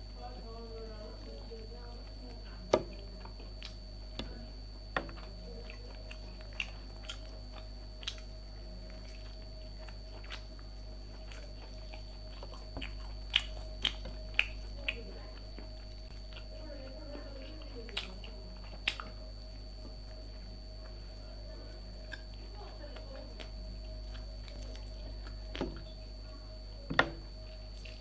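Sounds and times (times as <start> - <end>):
steady background hum: 0.0 - 28.0
person chewing: 3.0 - 21.2, 21.8 - 26.0, 27.3 - 28.0.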